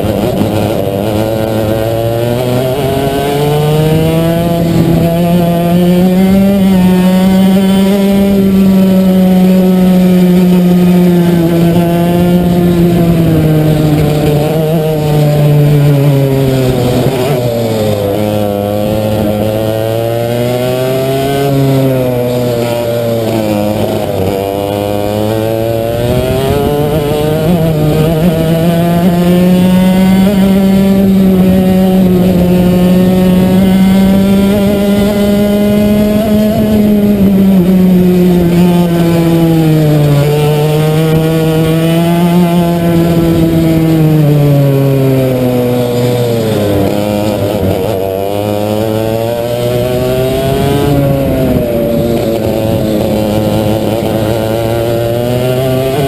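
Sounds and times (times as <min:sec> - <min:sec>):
two-stroke kart engine racing: 0:00.0 - 0:56.0.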